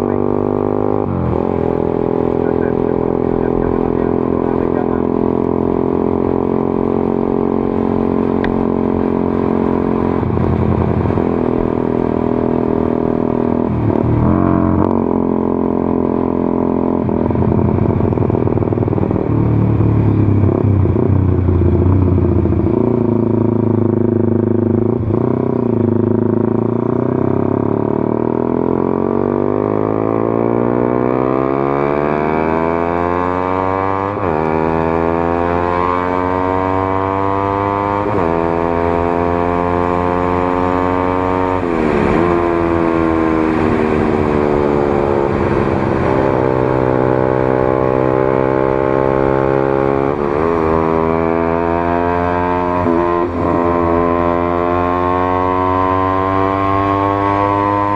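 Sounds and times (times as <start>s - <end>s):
motorcycle engine: 0.0s - 57.9s.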